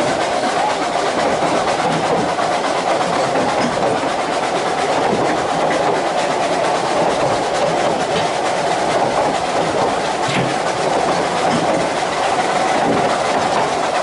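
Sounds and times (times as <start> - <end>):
train wheels on rail: 0.0 - 14.0.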